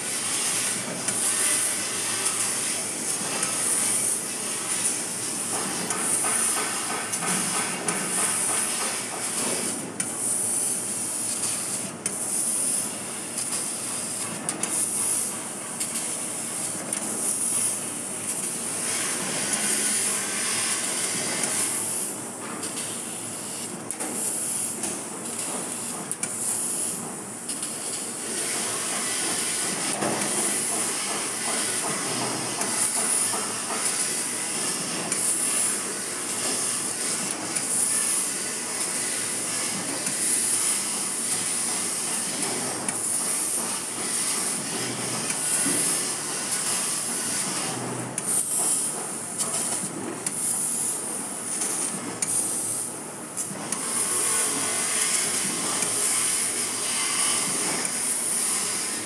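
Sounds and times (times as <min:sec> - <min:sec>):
laser cutter hiss: 0:00.0 - 0:59.0.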